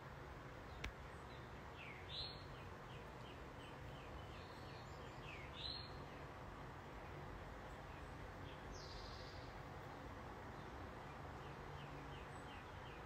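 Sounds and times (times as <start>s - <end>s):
steady low hiss: 0.0s - 13.0s
bird chirping: 0.7s - 13.0s.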